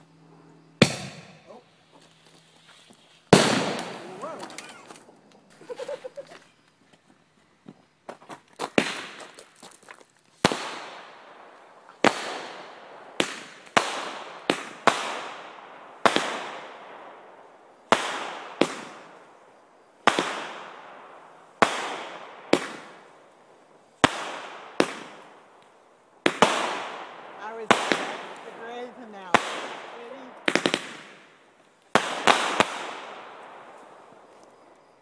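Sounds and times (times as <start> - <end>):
fireworks banging: 0.8 - 6.6, 8.0 - 19.4, 20.0 - 34.8
fireworks popping: 0.8 - 6.8, 8.0 - 17.2, 17.9 - 19.4, 20.0 - 35.0.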